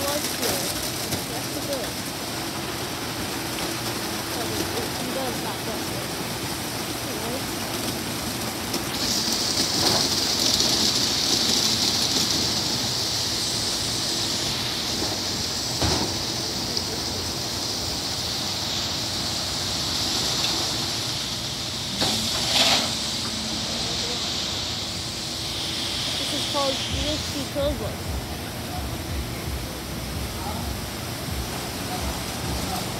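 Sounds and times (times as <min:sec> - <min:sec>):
faint steady hum: 0:00.0 - 0:32.9
water spraying: 0:00.0 - 0:32.9.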